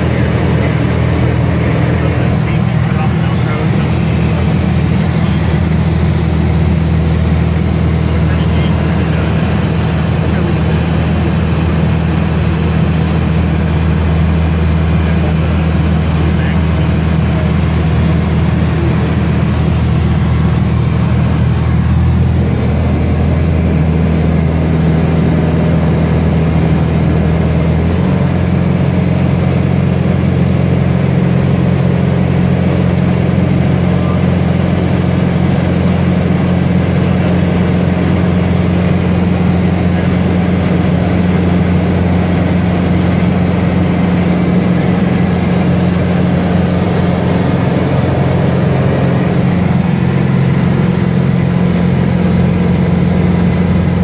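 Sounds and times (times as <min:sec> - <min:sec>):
propeller airplane engine droning: 0:00.0 - 0:54.0.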